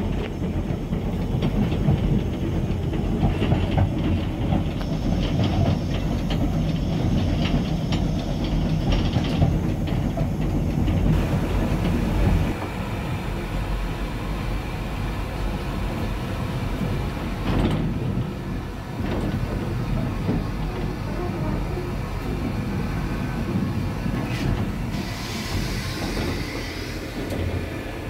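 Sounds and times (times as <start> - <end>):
steam locomotive wheels rumbling: 0.0 - 28.0.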